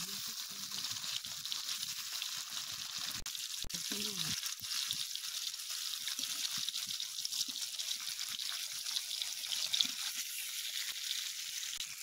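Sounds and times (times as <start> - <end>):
fish sizzling in hot oil: 0.0 - 12.0
spatula turning food in pan: 0.0 - 12.0.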